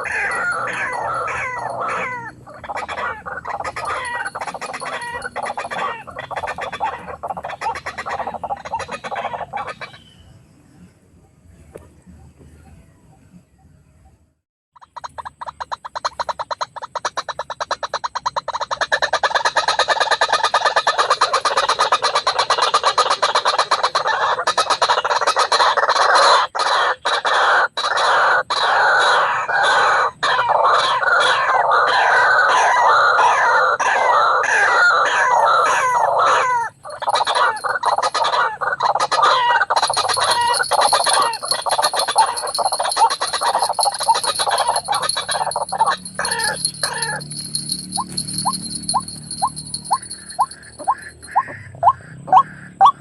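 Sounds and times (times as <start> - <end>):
waterhen croaking calls: 0.0 - 10.2, 14.8 - 53.0.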